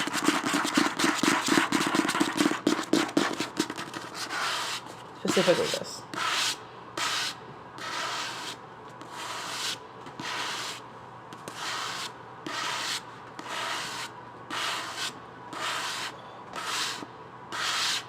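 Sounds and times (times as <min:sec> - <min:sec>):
hand rubbing a book cover: 0:00.0 - 0:10.8, 0:11.5 - 0:18.0.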